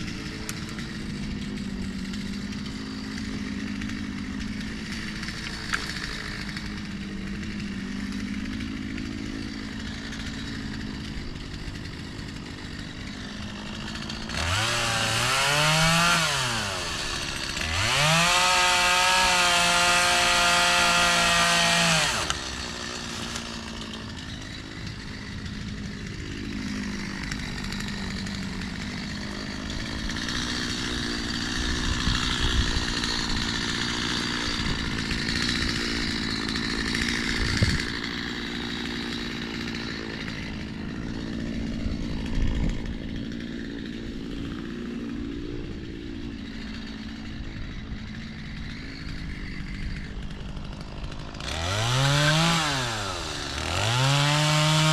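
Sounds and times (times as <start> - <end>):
chainsaw idling and revving: 0.0 - 54.9.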